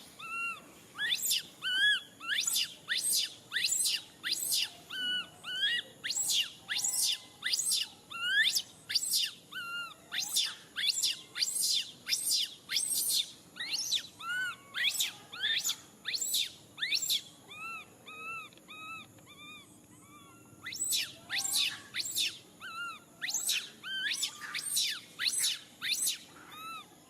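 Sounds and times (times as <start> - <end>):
baby monkey crying: 0.0 - 27.0.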